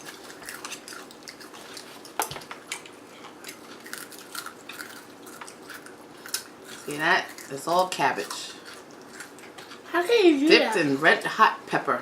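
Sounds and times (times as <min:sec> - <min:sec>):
eating sounds: 0:00.0 - 0:10.0.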